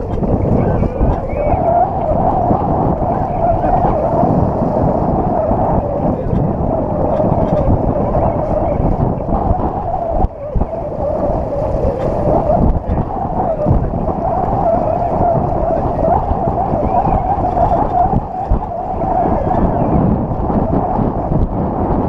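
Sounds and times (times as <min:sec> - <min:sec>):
water rushing wash: 0:00.0 - 0:22.0
wind buffeting microphone: 0:00.0 - 0:22.0.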